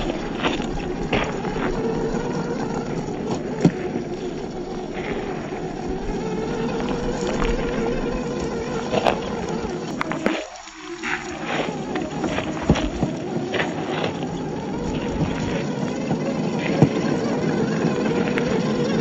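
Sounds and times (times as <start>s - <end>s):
ticks and knocks from wheels: 0.0s - 19.0s
toy car electric motor whining: 0.0s - 19.0s.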